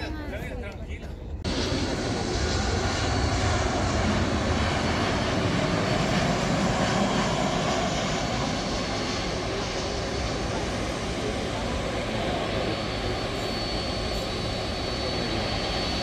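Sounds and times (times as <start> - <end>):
jet engines rumbling with whine: 0.0 - 16.0.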